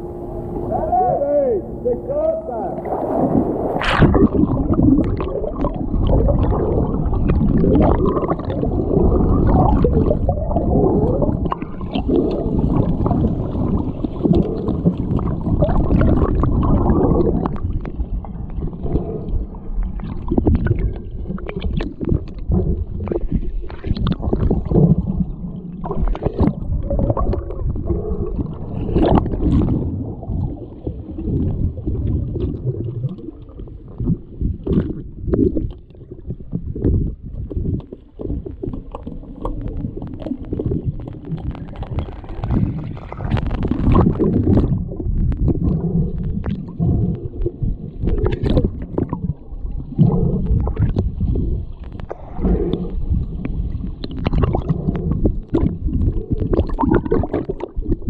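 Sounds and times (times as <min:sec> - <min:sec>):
pool water gurgling and sloshing: 0:00.0 - 0:58.0.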